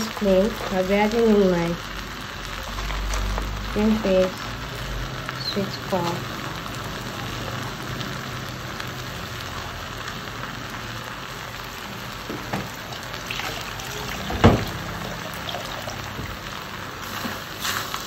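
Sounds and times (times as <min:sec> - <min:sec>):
fried rice sizzling in a pot: 0:00.0 - 0:18.0.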